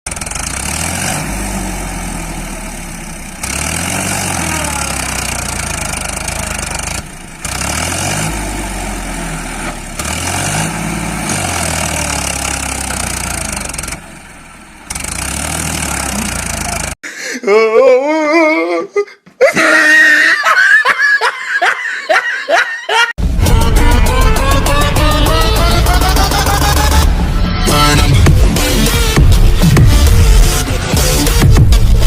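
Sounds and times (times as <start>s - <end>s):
tractor engine revving: 0.1s - 17.0s, 23.2s - 32.0s.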